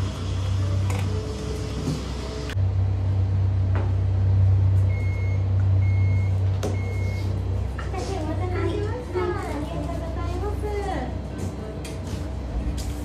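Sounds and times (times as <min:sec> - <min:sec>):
steady low rumble: 0:02.5 - 0:13.0.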